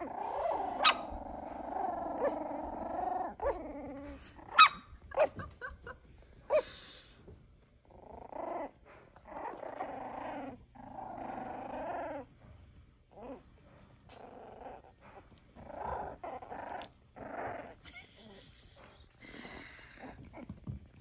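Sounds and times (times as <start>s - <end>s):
puppies play-growling: 0.0s - 6.7s, 7.6s - 21.0s.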